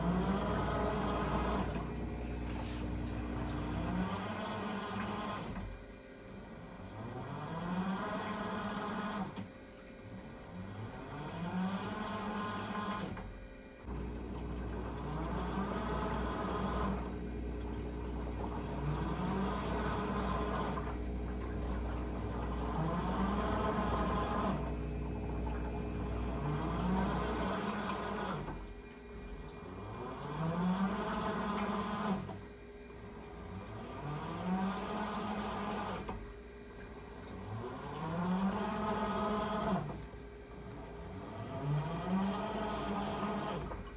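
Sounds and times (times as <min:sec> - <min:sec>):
steady low hum: 0:00.0 - 0:43.9
washing machine motor whine: 0:00.0 - 0:43.9.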